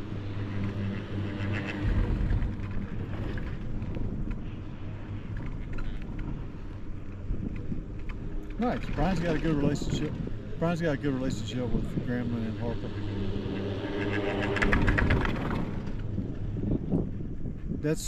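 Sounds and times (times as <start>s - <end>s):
chairlift mechanical hum: 0.0s - 17.7s.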